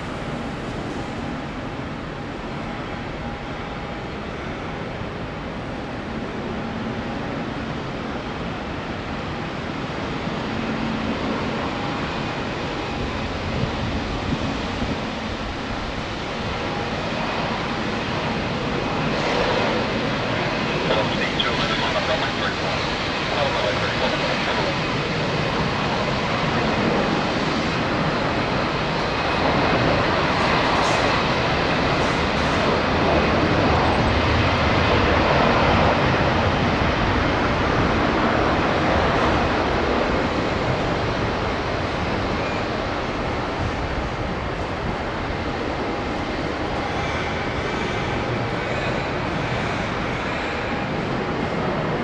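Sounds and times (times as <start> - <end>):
jet engines rushing: 0.0 - 52.0.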